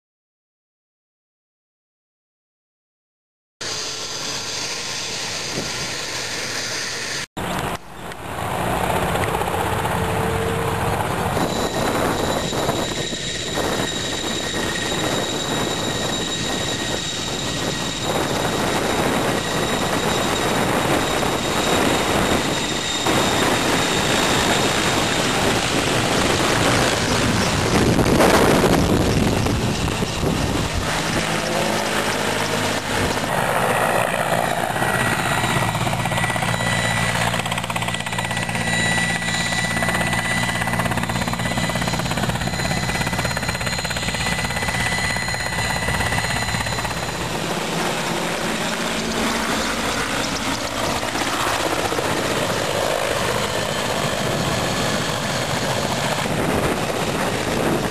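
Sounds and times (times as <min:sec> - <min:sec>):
helicopter rotor and engine: 0:03.6 - 0:57.9.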